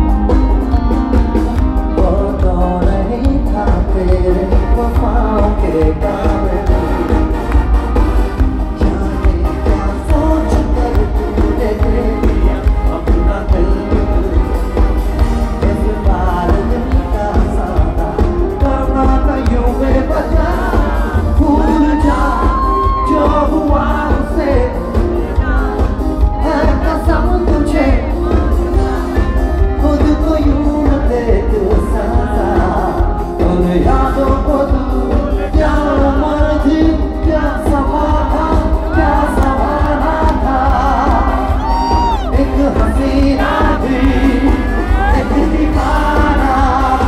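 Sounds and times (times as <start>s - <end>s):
band with drums and bass: 0.0s - 47.0s
crowd voices and shouts: 0.0s - 47.0s
man singing into microphone: 1.8s - 7.5s, 8.4s - 47.0s.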